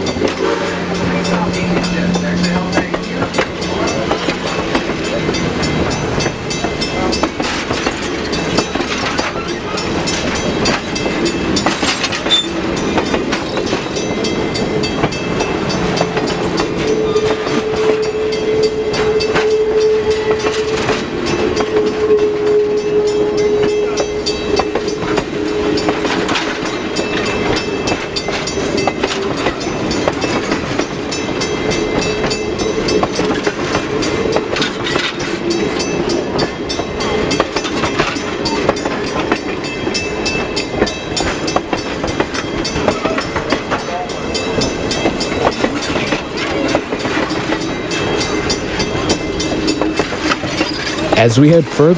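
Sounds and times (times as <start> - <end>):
train wheels clicking over rail joints: 1.0 - 18.2, 24.4 - 51.0.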